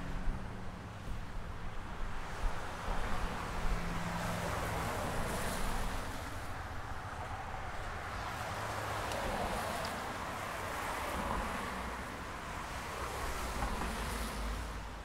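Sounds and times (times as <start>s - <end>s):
car traffic rumble: 0.0s - 15.0s.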